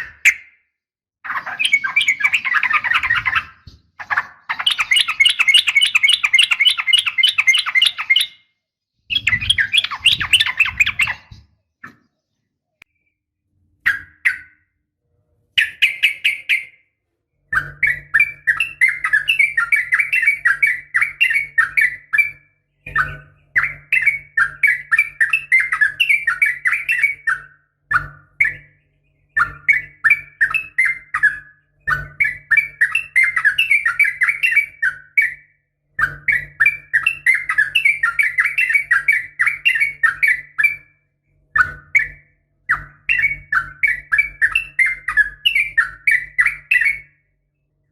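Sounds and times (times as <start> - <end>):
bird chattering song: 0.0 - 14.8, 15.5 - 47.9.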